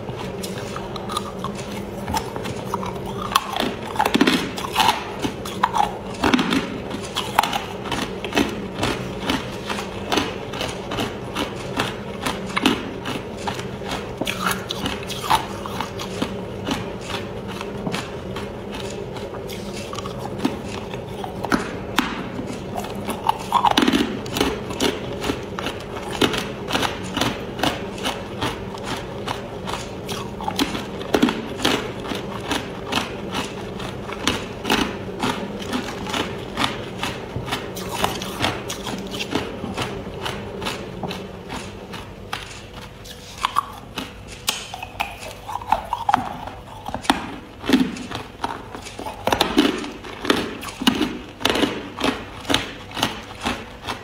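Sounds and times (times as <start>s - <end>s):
ice cubes being chewed: 0.0s - 54.0s.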